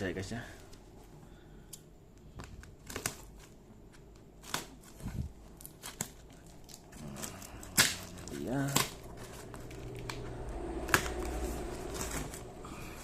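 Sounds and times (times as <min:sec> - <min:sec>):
cardboard rustling and crinkling: 0:02.3 - 0:13.0.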